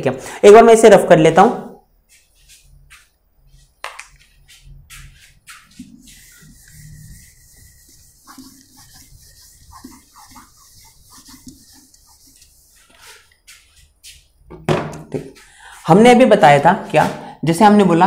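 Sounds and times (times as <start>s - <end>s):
duster wiping whiteboard: 2.0s - 17.2s.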